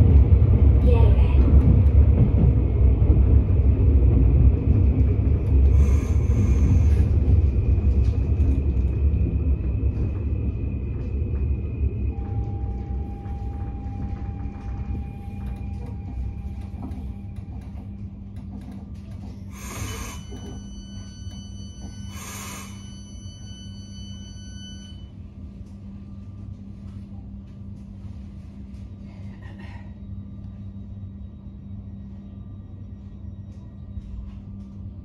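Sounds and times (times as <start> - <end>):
electric train interior humming: 0.0 - 35.0.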